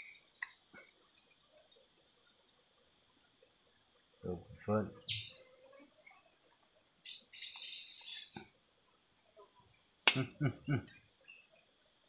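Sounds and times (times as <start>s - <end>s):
high-pitched insect whine: 0.0s - 12.0s
rasping insect call: 0.0s - 12.0s.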